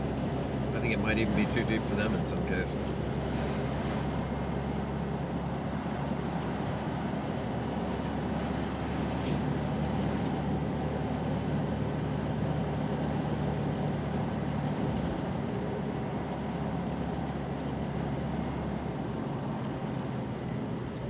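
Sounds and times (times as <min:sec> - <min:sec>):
car engine hum: 0:00.0 - 0:21.0.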